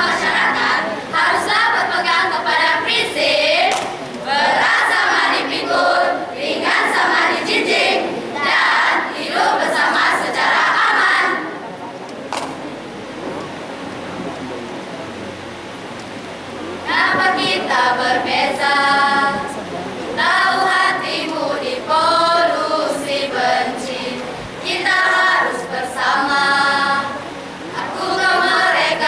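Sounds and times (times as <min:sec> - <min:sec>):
students chanting in unison: 0:00.0 - 0:11.6, 0:16.8 - 0:29.0.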